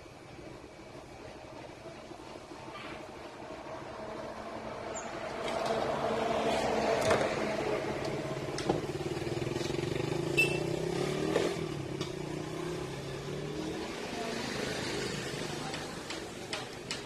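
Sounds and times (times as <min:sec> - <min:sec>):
vehicle engine running: 0:00.0 - 0:16.8.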